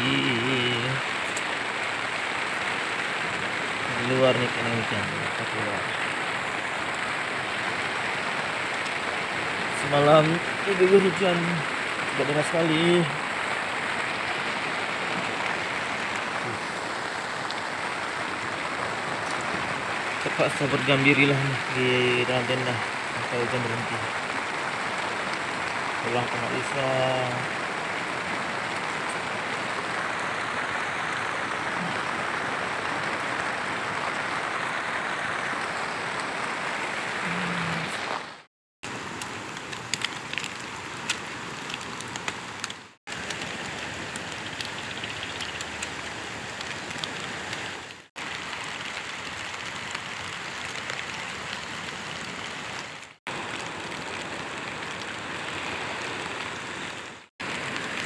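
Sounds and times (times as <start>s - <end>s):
rain on a tent: 0.0s - 58.0s.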